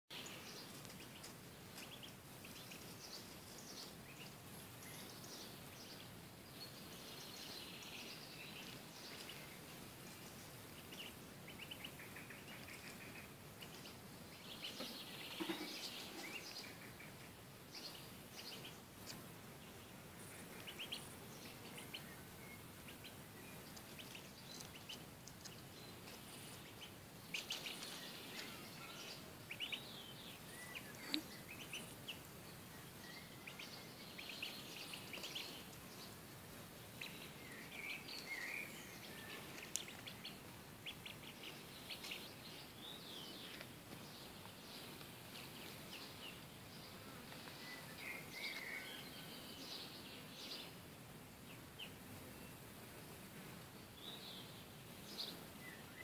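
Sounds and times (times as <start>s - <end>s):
small birds chirping: 0.1s - 56.0s
steady background hiss: 0.1s - 56.0s.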